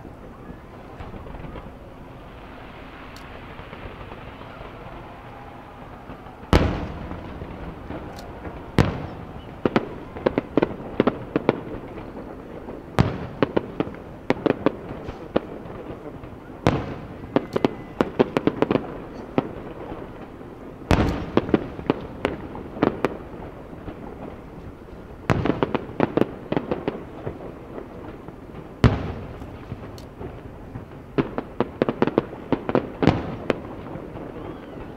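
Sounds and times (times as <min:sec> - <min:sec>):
firework shells booming: 0:00.0 - 0:34.9
sharp firework cracks: 0:00.0 - 0:34.9.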